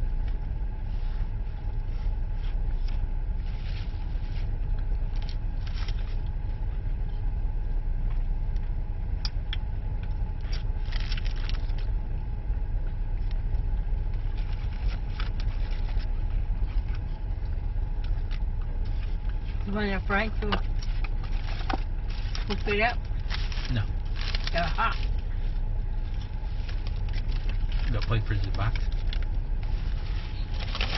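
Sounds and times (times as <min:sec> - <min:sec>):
car rumble from inside cabin: 0:00.0 - 0:30.9.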